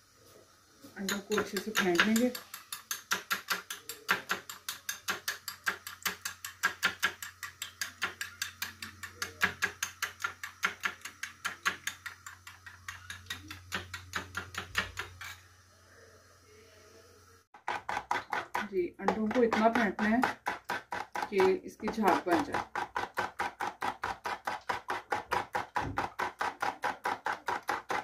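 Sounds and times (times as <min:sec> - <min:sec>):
spoon beating eggs in glass bowl: 0:01.0 - 0:15.4, 0:17.6 - 0:28.0.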